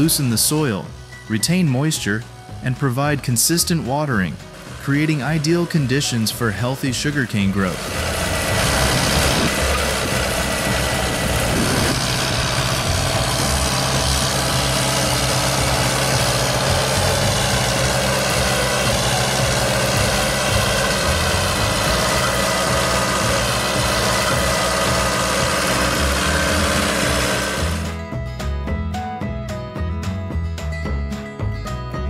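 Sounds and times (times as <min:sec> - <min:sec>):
tractor engine running: 0:00.0 - 0:28.7.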